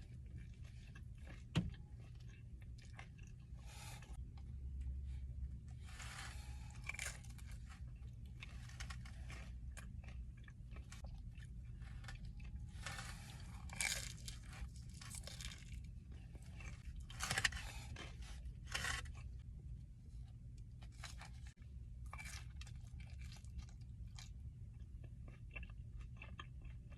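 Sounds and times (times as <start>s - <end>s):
chewing and crunching food: 0.0s - 26.9s
steady low hum: 0.0s - 26.9s.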